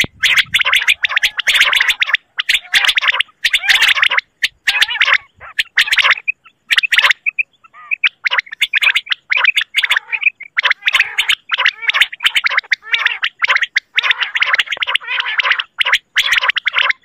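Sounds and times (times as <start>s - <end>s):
quail calls: 0.0s - 17.0s.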